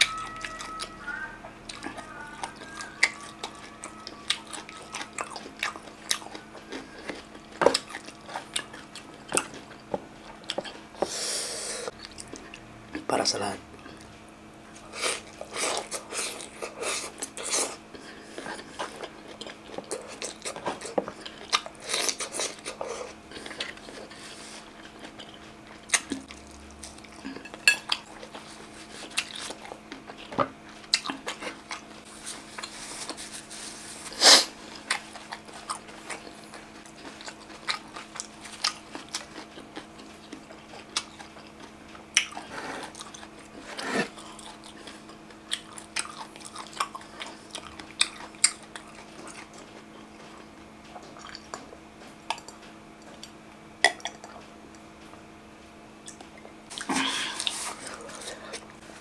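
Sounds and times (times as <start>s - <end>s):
faint steady hum: 0.0s - 59.0s
chewing crunches and mouth clicks: 1.7s - 11.0s, 11.9s - 13.1s, 13.7s - 55.2s, 56.0s - 59.0s.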